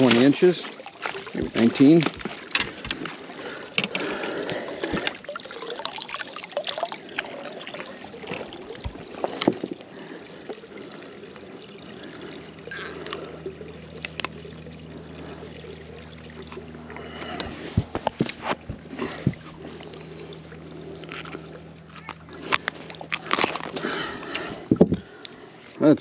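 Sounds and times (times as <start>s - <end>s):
water trickling and dripping: 0.0s - 25.8s
low steady hum: 0.0s - 26.0s.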